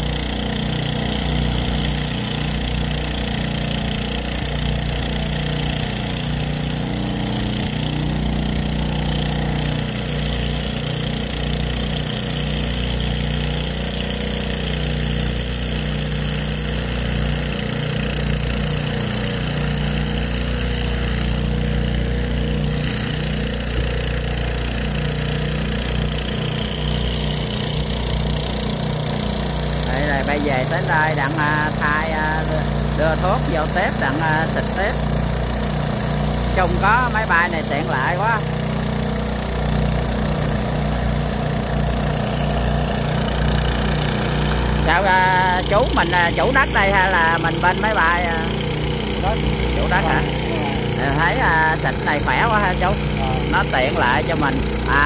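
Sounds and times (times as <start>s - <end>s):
drone rotors humming: 0.0s - 55.0s.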